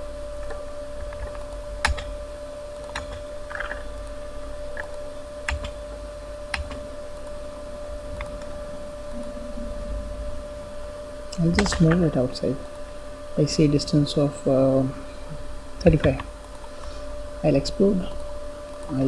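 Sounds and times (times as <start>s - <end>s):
electrical hum and hiss: 0.0s - 19.0s.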